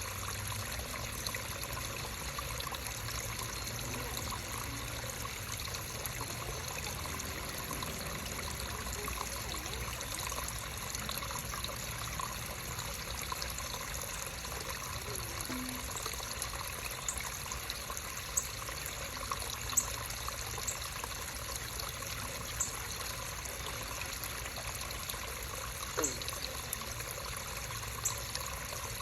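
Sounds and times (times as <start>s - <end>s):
creek babbling over stones: 0.0s - 29.0s.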